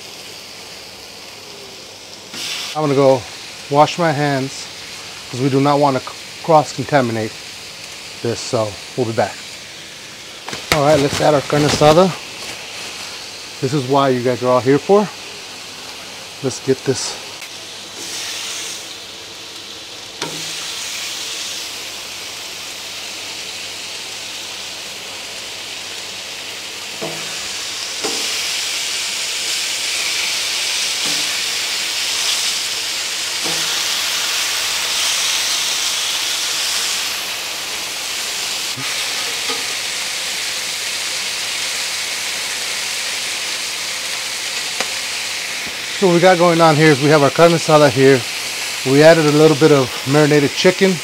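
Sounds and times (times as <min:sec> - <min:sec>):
meat sizzling on a griddle: 0:00.0 - 0:51.0.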